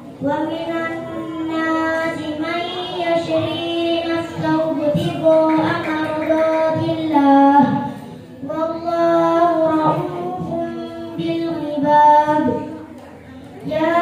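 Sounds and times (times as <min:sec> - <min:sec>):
girl chanting into microphone: 0:00.1 - 0:12.9, 0:13.6 - 0:14.0.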